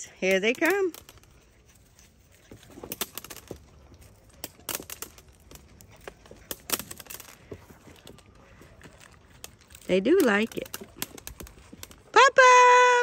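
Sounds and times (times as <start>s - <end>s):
puppies crunching corn: 0.1s - 12.1s.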